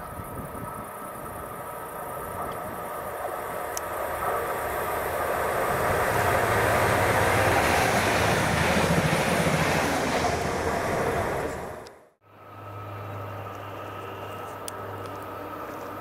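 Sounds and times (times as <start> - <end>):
train passing: 0.0 - 16.0.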